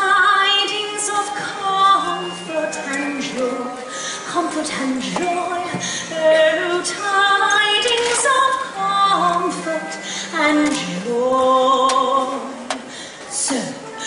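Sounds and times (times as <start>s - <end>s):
musical accompaniment: 0.0s - 14.0s
woman singing: 0.0s - 14.0s.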